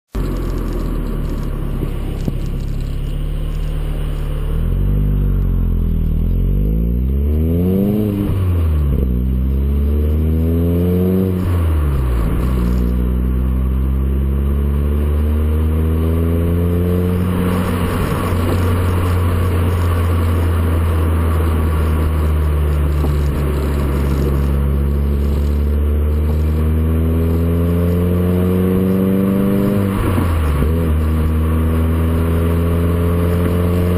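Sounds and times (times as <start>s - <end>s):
car engine revving through exhaust: 0.2s - 33.9s.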